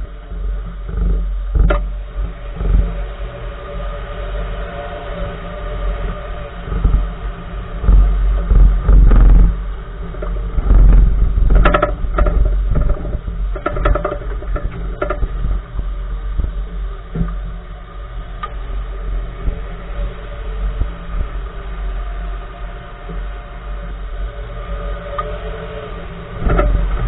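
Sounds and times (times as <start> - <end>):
road and tyre rumble: 0.0 - 27.0.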